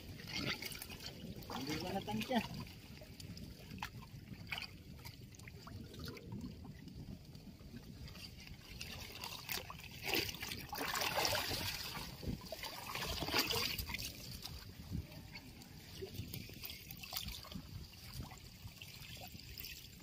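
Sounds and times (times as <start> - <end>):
paddle swishing water splashes: 0.0 - 20.0
water trickling and dripping: 0.0 - 20.0.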